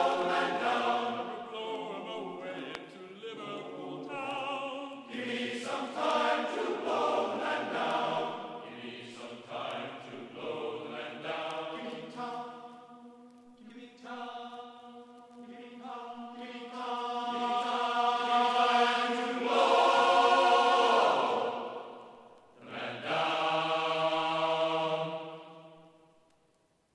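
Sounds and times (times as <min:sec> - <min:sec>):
choir singing long held notes: 0:00.0 - 0:26.2.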